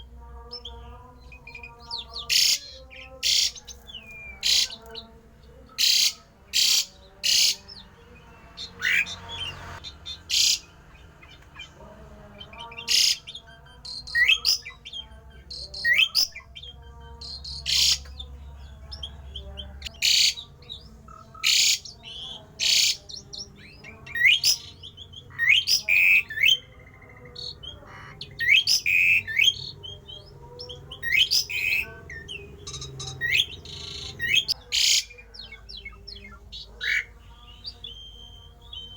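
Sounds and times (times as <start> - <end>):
starling harsh calls: 0.0 - 38.9.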